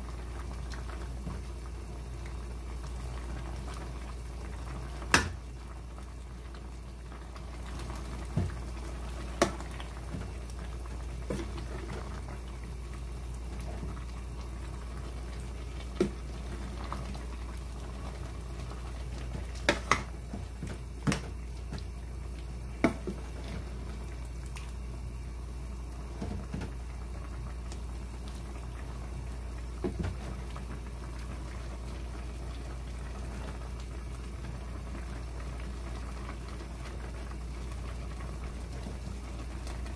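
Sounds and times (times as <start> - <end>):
stew bubbling in a pot: 0.0 - 39.9.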